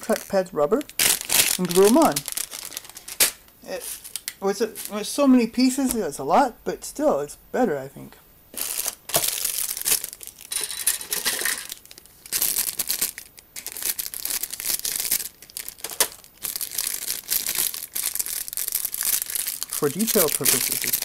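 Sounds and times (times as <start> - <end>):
plastic bags crinkling: 0.0 - 5.2, 8.5 - 21.0.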